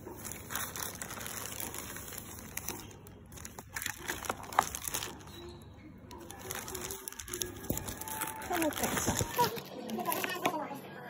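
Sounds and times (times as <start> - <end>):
plastic bag crinkling: 0.0 - 5.5, 6.1 - 10.5.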